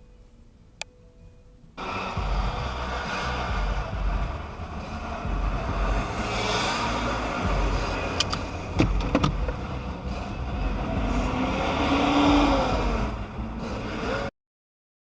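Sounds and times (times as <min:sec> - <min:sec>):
car engine and road rumble: 0:00.0 - 0:14.3
pitched engine sound: 0:01.8 - 0:14.3.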